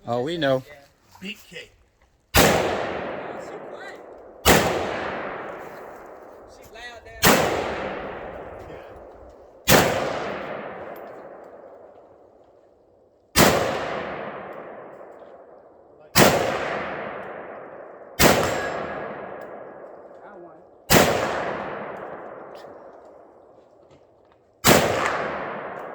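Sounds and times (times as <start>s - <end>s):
gunshots with long echo: 2.3s - 23.8s, 24.6s - 25.9s.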